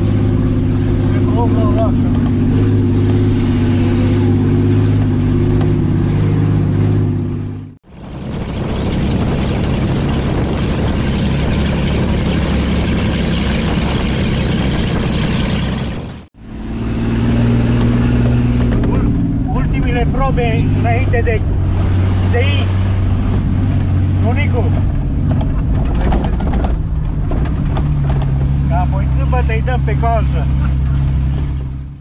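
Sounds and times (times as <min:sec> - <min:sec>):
off-road vehicle engine running: 0:00.0 - 0:32.0.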